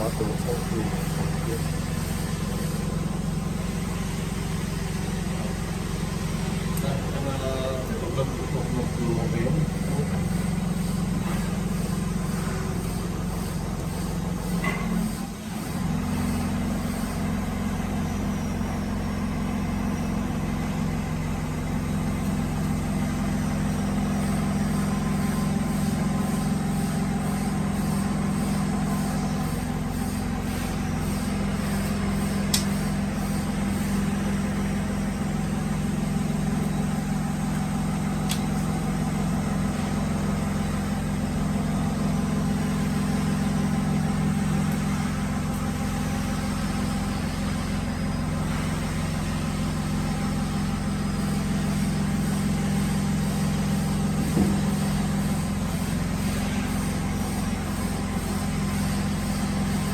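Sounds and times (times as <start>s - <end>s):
machine motor humming: 0.0s - 59.9s.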